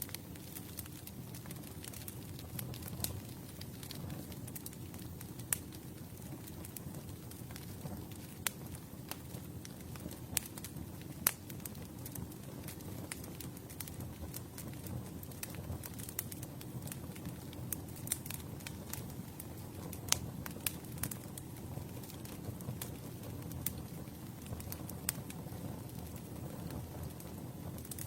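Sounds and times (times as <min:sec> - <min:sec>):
flames rumbling: 0:00.0 - 0:28.0
wood crackling and popping: 0:00.0 - 0:28.0.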